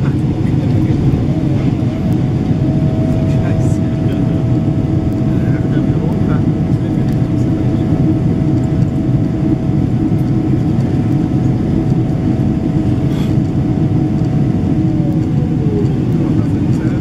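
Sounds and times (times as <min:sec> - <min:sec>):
airplane cabin airflow and engines: 0:00.0 - 0:17.0
thin steady whine: 0:00.0 - 0:17.0.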